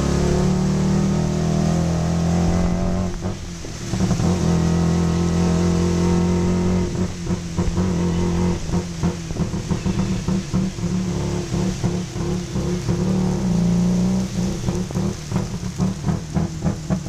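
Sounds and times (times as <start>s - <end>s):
tuk-tuk engine running: 0.0s - 17.0s.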